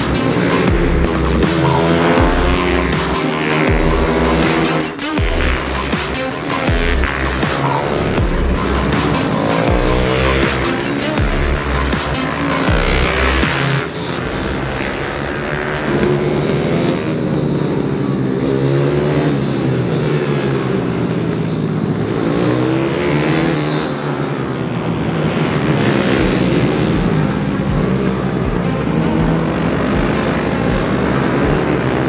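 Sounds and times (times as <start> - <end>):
minibike engines racing past: 0.0 - 32.0.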